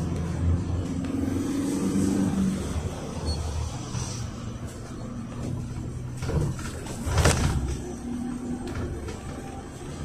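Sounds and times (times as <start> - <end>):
minibus engine: 0.0 - 10.0.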